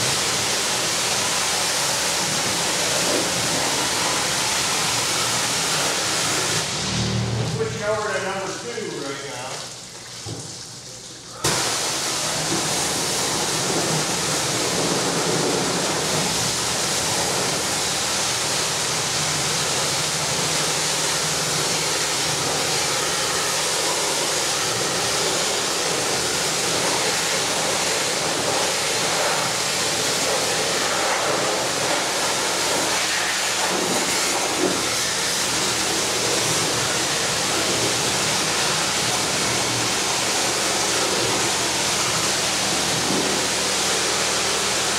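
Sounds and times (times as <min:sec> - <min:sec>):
pressure washer spray hissing: 0:00.0 - 0:09.6, 0:11.4 - 0:44.9.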